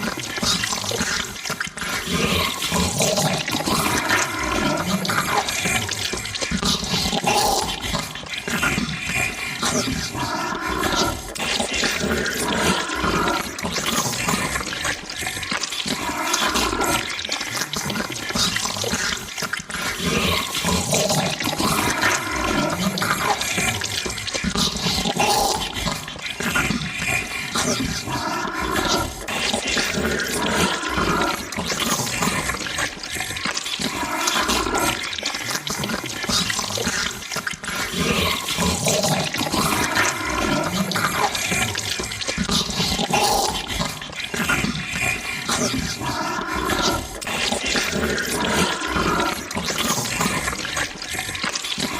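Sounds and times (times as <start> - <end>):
wet sloppy chewing and slurping: 0.0 - 51.9.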